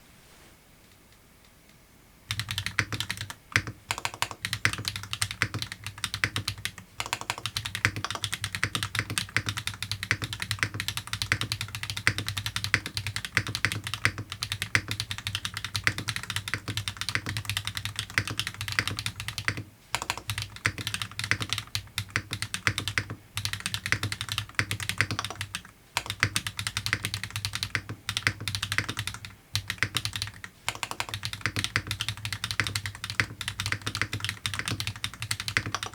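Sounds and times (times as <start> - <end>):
fast typing on mechanical keyboard: 2.3 - 35.9.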